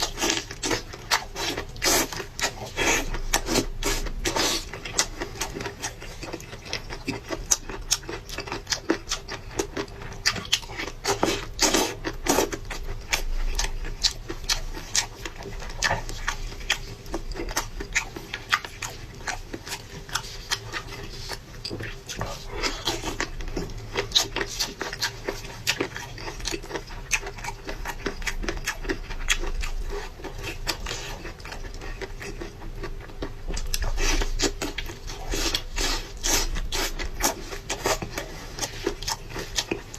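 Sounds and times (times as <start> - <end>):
person chewing wetly: 0.0 - 39.9.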